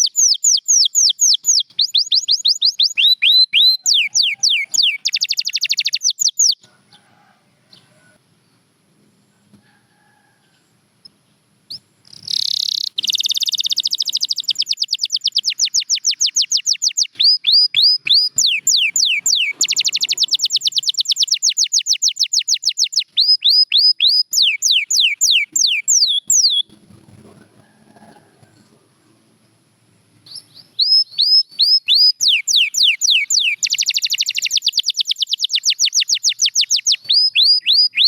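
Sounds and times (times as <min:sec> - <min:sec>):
canary singing: 0:00.0 - 0:06.7, 0:11.7 - 0:29.2, 0:30.2 - 0:38.0.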